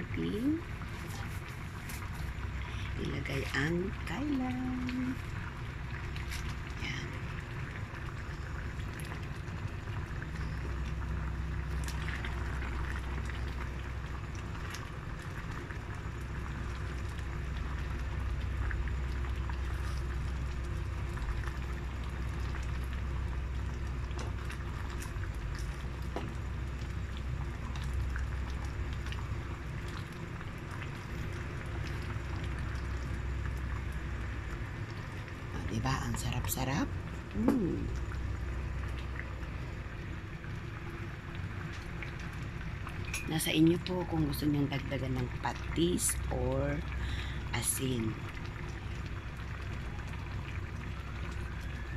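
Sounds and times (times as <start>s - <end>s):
stew bubbling in a pan: 0.0s - 51.9s.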